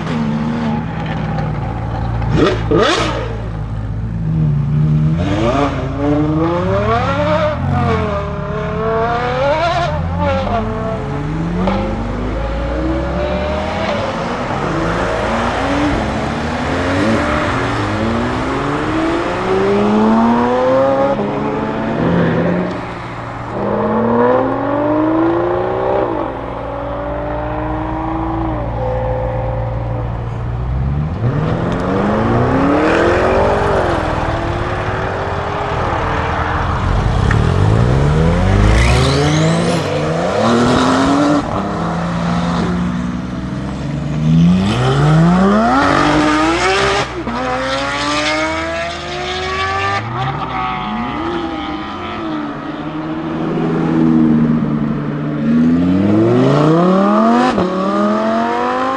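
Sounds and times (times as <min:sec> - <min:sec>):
sports car accelerating hard: 0:00.0 - 0:58.9
low engine drone: 0:01.3 - 0:50.0.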